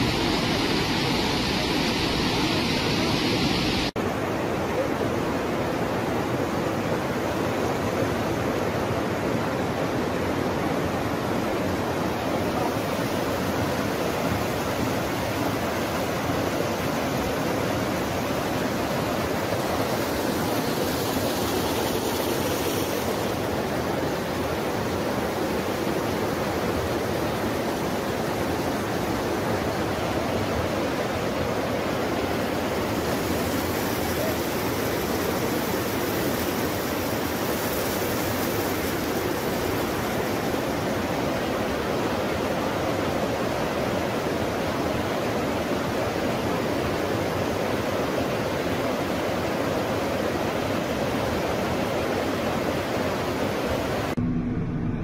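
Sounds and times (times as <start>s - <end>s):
river water rushing: 0.0s - 54.2s.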